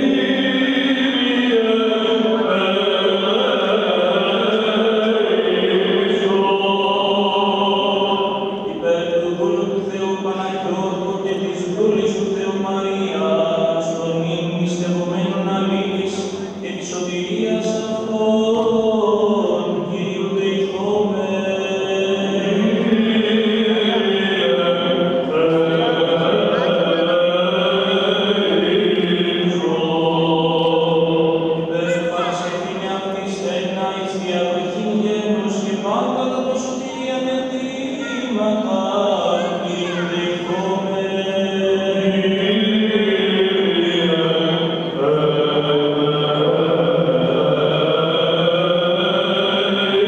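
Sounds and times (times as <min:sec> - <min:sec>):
voices chanting slow melody: 0:00.0 - 0:50.0.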